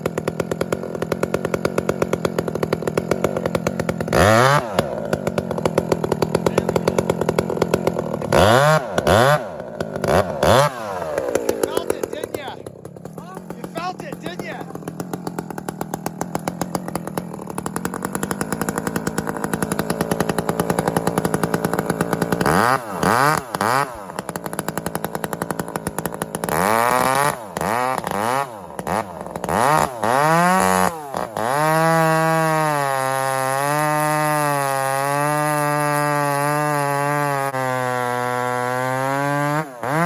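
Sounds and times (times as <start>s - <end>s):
chainsaw idling and revving: 0.0s - 40.0s.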